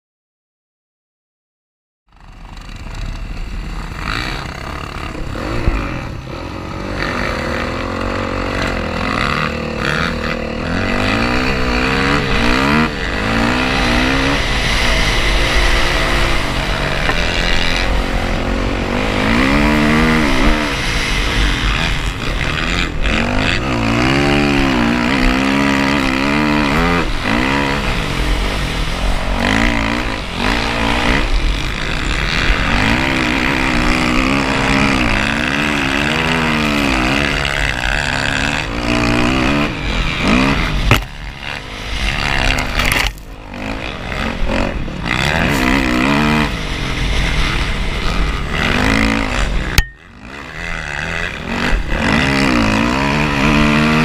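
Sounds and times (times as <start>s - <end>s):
dirt bike engine revving: 2.1s - 54.0s.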